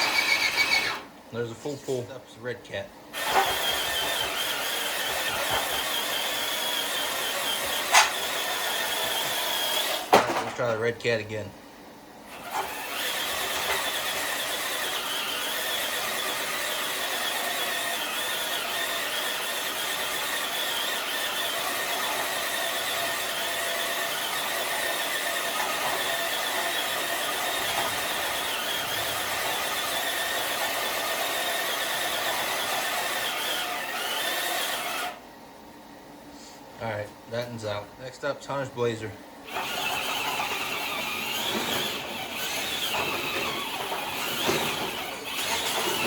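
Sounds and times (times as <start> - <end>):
electric motor and gears whining: 0.0 - 1.1, 3.2 - 10.1, 12.3 - 35.2, 39.4 - 46.0.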